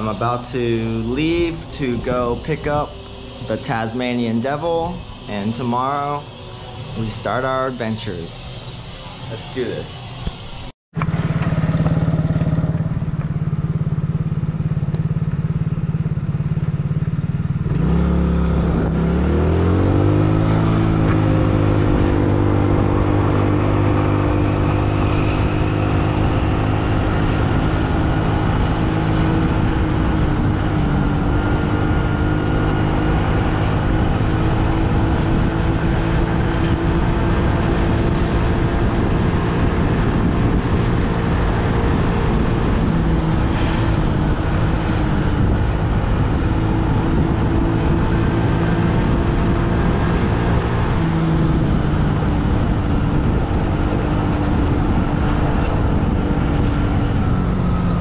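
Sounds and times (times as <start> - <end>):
vehicle engine pulling away: 0.0 - 9.1, 11.0 - 58.0.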